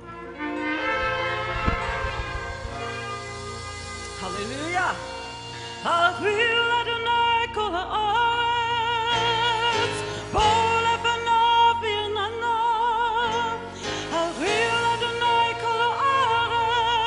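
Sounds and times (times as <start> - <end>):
worship band playing: 0.0 - 8.2, 8.9 - 17.0
woman singing with vibrato: 0.0 - 17.0.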